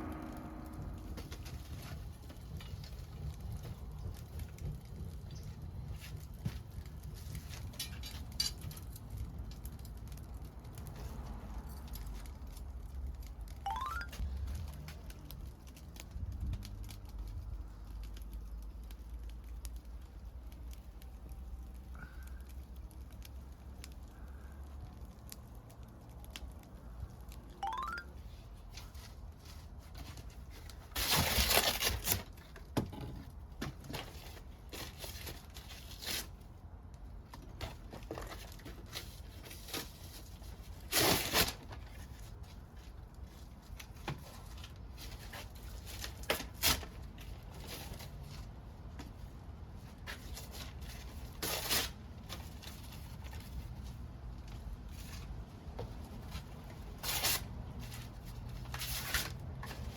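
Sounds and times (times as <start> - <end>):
wood fire crackling and popping: 0.0 - 27.6, 28.2 - 59.9.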